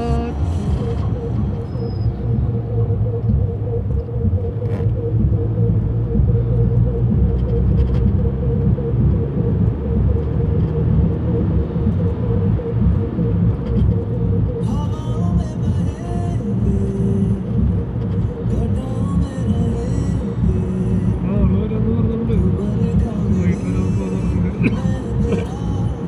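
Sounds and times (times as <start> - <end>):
car engine and tyre rumble: 0.0 - 26.0
faint steady hum: 0.0 - 26.0.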